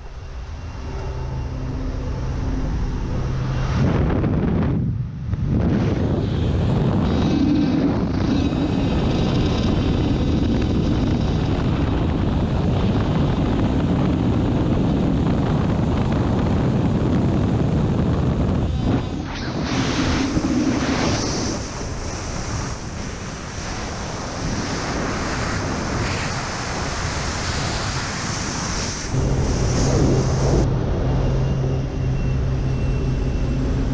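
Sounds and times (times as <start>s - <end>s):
propeller plane engine roar: 0.0s - 33.9s
wind buffeting microphone: 2.7s - 33.9s.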